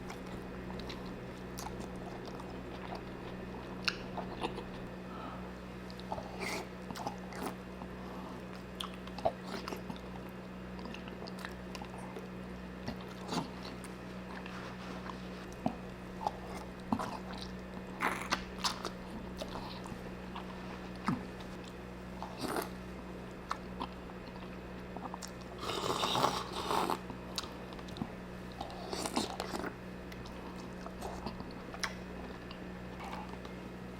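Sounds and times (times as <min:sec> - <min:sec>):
chewing and biting food: 0:00.0 - 0:04.9, 0:05.9 - 0:33.6
steady low hum: 0:00.0 - 0:33.9.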